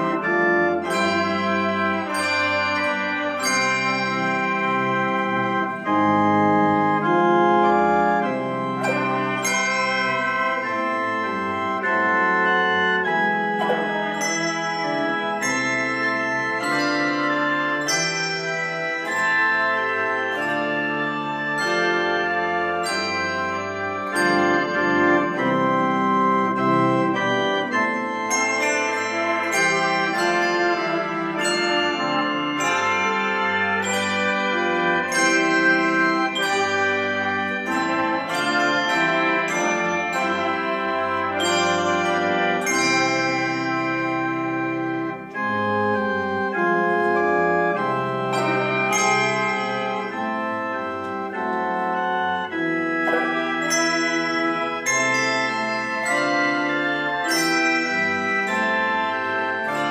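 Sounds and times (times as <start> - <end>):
handbell choir ringing: 0.0 - 5.9, 8.2 - 45.5, 47.6 - 59.9.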